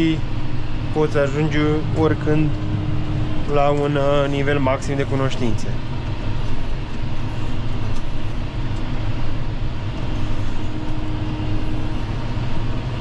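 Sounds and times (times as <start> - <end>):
faint steady whine: 0.0 - 13.0
tractor engine droning: 0.0 - 13.0.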